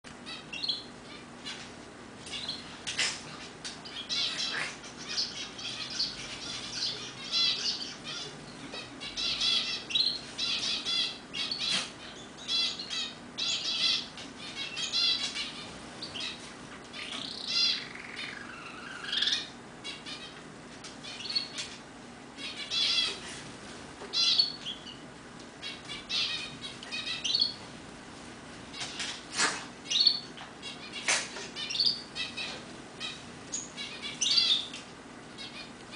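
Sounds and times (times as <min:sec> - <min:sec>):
canary singing trilled phrases: 0:00.2 - 0:21.8, 0:22.4 - 0:23.3, 0:24.1 - 0:27.6, 0:29.8 - 0:35.9.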